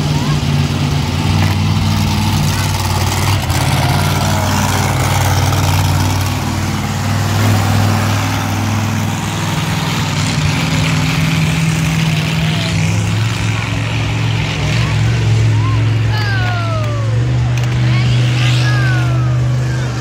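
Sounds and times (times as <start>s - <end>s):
monster truck engine running: 0.0s - 20.0s.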